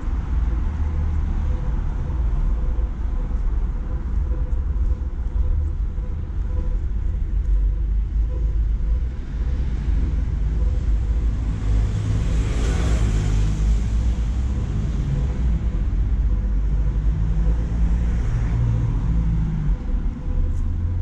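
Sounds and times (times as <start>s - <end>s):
passing vehicles: 0.0s - 21.0s
vehicle engine running: 0.0s - 21.0s.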